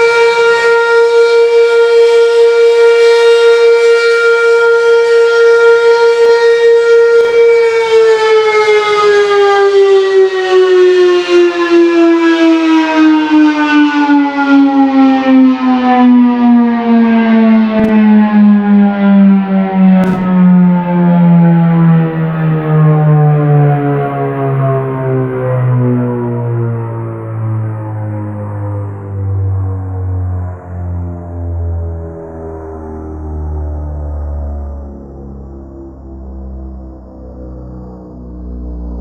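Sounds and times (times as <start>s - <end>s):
warning siren winding down: 0.0s - 35.4s.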